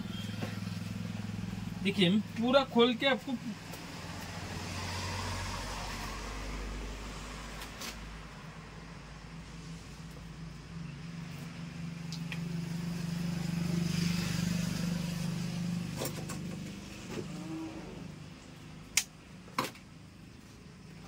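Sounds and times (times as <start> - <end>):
vehicle engine passing: 0.0 - 18.9.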